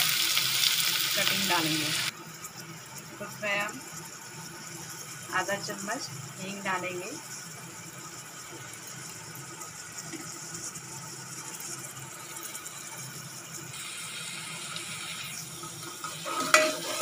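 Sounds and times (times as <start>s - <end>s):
onion sizzling in hot oil: 0.0s - 17.0s.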